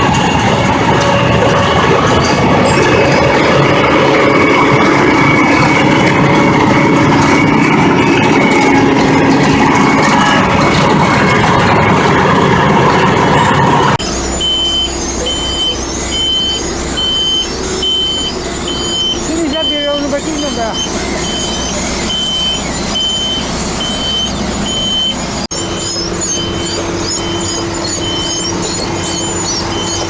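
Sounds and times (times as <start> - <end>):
engine running: 0.0 - 30.0
reversing alarm beeping: 0.0 - 30.0
road-paving machinery clattering: 0.0 - 30.0.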